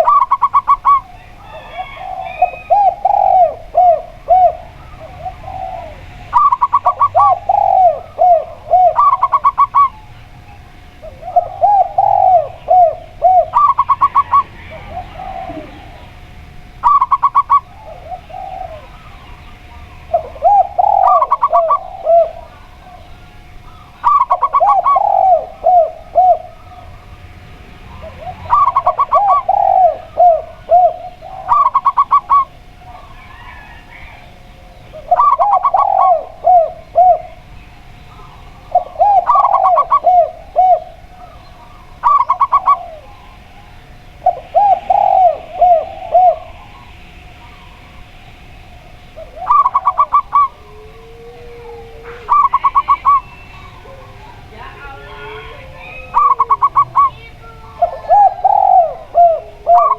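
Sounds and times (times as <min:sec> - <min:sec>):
doves calling and cooing: 0:00.0 - 0:59.9.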